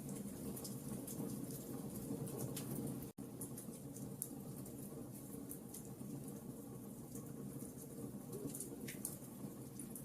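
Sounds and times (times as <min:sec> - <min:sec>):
bonfire crackling: 0:00.0 - 0:10.0
fire popping: 0:00.0 - 0:10.0
low roar of burning: 0:00.0 - 0:10.0.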